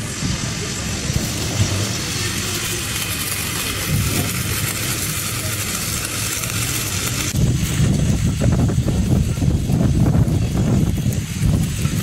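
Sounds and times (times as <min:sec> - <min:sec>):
arc welding crackling hiss: 0:00.0 - 0:12.0.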